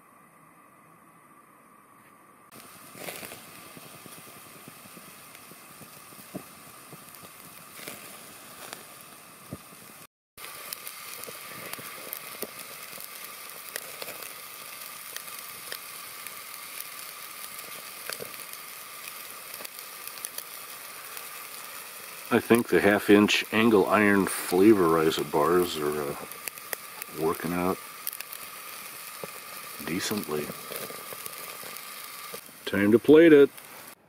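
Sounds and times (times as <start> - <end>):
burner pops: 2.5 - 34.0
gas stove burner running: 2.5 - 34.0
steak sizzling on a grill: 2.5 - 34.0.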